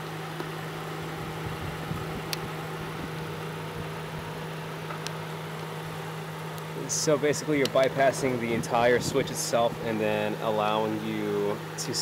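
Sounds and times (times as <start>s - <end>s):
electric cooling fans humming: 0.0s - 12.0s.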